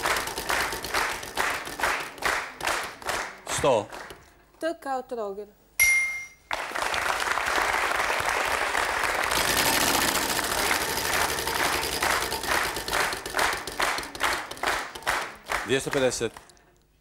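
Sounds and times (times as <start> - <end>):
studio audience applauding: 0.0 - 4.2, 6.5 - 16.5.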